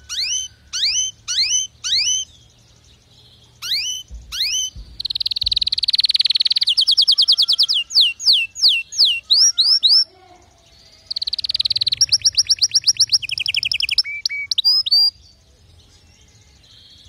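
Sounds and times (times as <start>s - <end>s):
canary singing: 0.0s - 17.0s.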